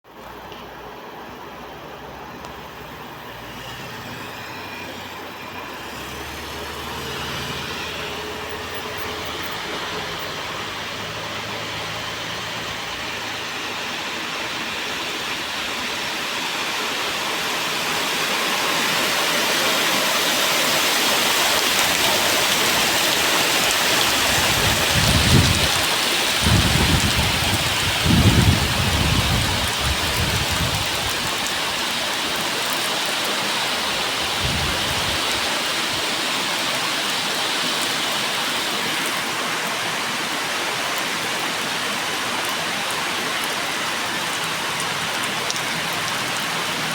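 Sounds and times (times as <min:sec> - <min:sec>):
heavy rain: 0:00.1 - 0:46.9.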